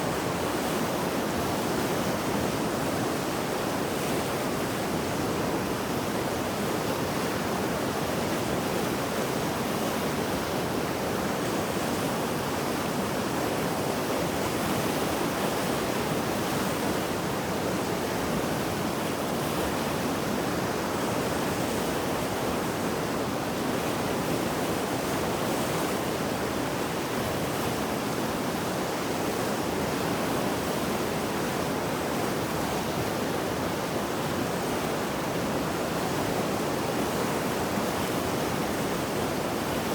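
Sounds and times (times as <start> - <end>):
fast turbulent river rushing: 0.0 - 39.9.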